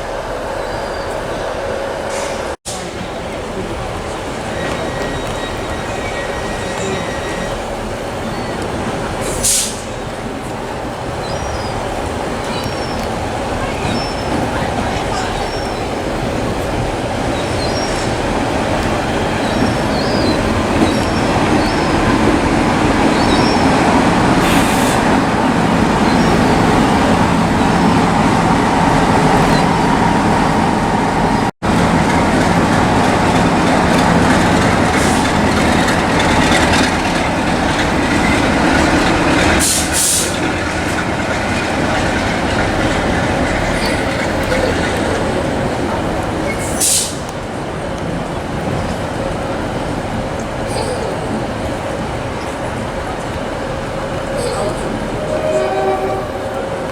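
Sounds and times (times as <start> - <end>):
train running drone: 0.0 - 56.9.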